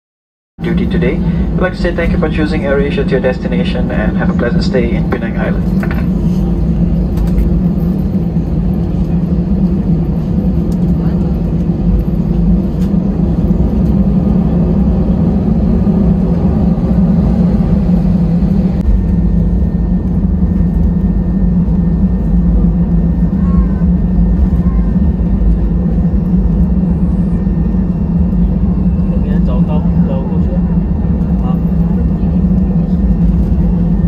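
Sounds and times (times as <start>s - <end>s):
jet engines low drone: 0.6s - 34.0s.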